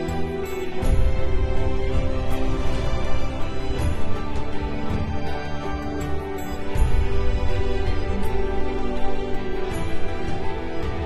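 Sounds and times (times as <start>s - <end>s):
soft tender background music: 0.0s - 11.0s.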